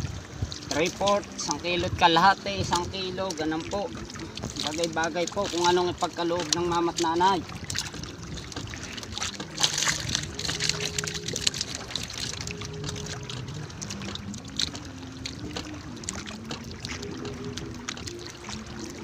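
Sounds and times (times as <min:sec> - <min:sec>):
fishing net hauled from water: 0:00.0 - 0:19.0
water dripping and splashing: 0:00.0 - 0:19.0
loud splash: 0:03.3 - 0:19.0.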